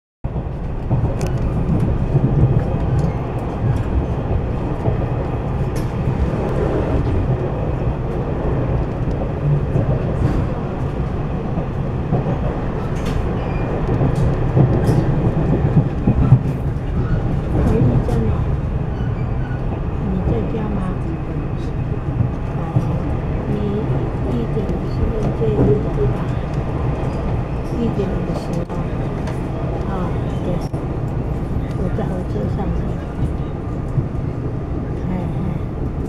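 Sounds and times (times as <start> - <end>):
train wheels rumbling on rails: 0.3 - 36.0.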